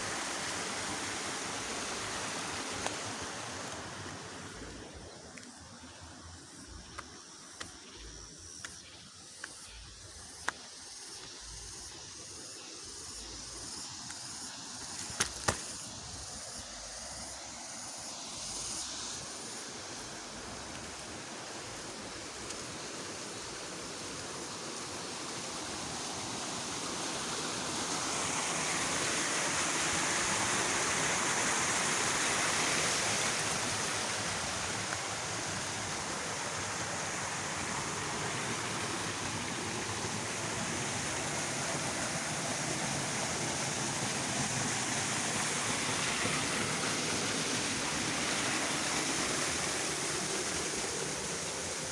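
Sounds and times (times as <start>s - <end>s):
stream water rushing: 0.0s - 8.0s, 12.9s - 51.9s.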